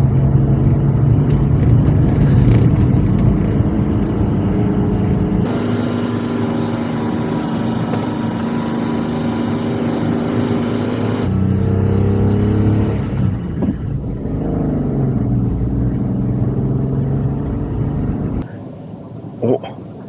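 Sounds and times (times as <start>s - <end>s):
truck engine pulling uphill: 0.0s - 18.7s.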